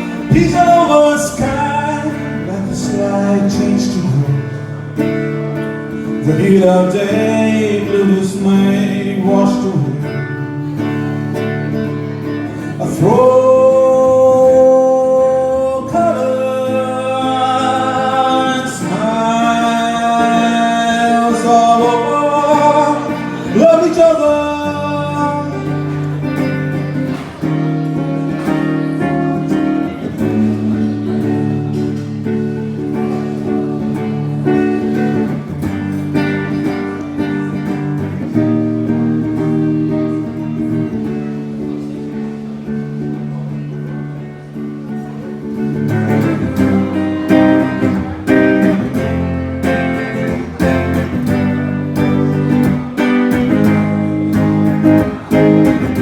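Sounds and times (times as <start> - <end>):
live guitar-led instrumental music: 0.0 - 56.0.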